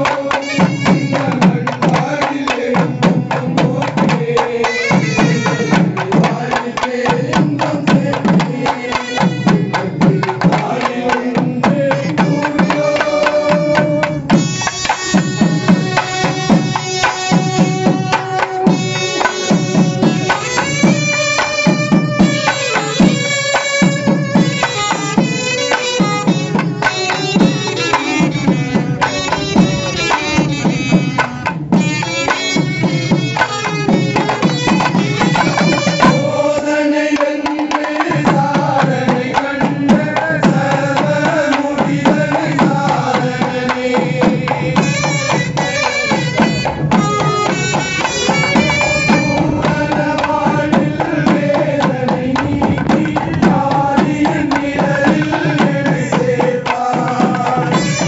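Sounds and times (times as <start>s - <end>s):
barrel drums beating fast rhythm: 0.0s - 58.0s
men singing a hymn: 0.0s - 58.0s.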